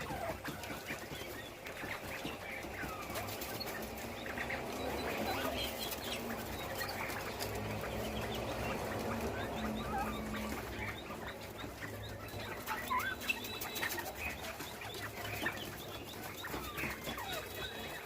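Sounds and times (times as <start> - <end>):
quail chirping: 0.0 - 18.0.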